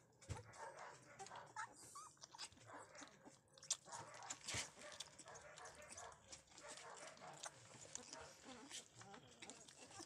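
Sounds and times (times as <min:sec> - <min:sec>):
puppy suckling from bottle: 0:01.2 - 0:10.0.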